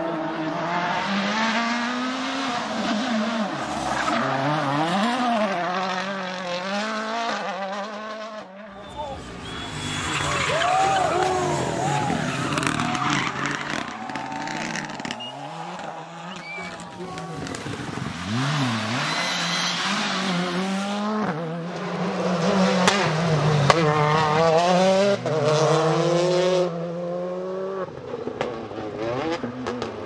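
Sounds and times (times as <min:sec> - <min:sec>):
rally car engines revving: 0:00.0 - 0:30.0.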